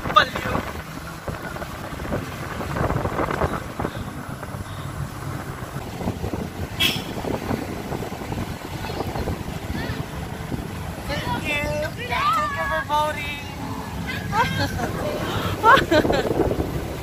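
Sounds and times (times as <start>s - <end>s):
vehicle rumble and rattling: 0.0s - 17.0s
wind buffeting microphone: 0.0s - 17.0s.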